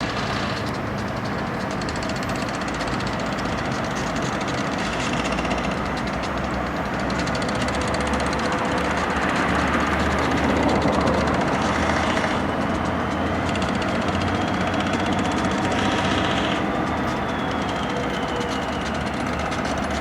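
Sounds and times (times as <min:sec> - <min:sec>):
freight train passing: 0:00.0 - 0:20.0
locomotive engines droning: 0:00.0 - 0:20.0.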